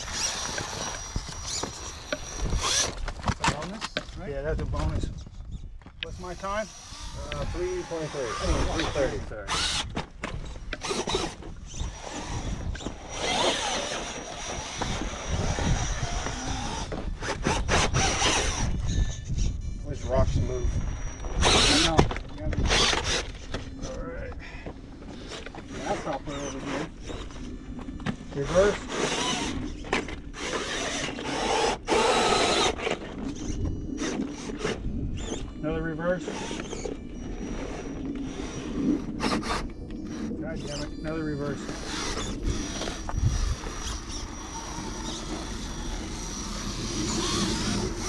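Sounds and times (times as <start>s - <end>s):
electric motor whine: 0.0s - 3.4s, 6.0s - 24.1s, 25.0s - 48.0s.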